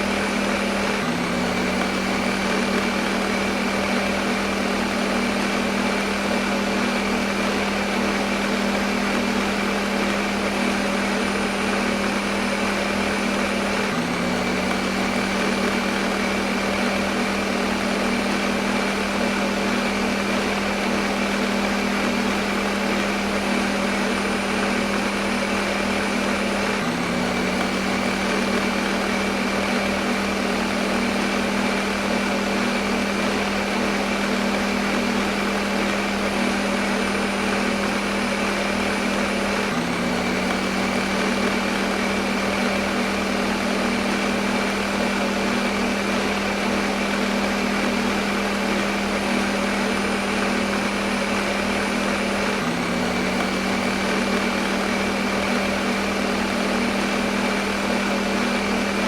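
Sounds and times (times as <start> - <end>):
kitchen blender running: 0.0 - 59.0.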